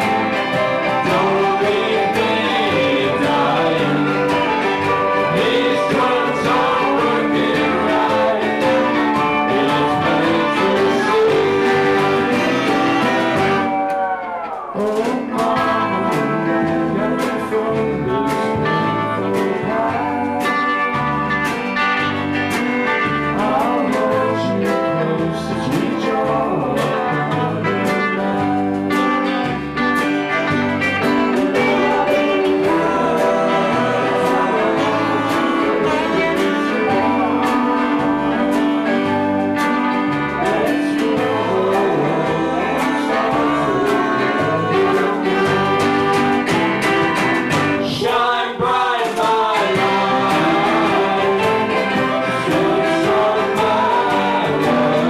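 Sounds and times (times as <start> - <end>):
steady drum beat: 0.0 - 13.9, 14.6 - 55.0
person singing: 0.0 - 22.2, 22.9 - 55.0
bass notes: 0.0 - 55.0
guitar: 0.0 - 55.0.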